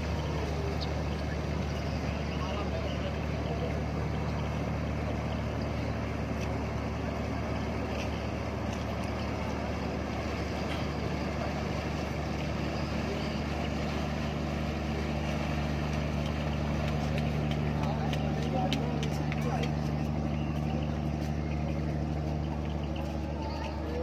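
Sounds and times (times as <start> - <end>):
ship diesel engines droning: 0.0 - 24.0.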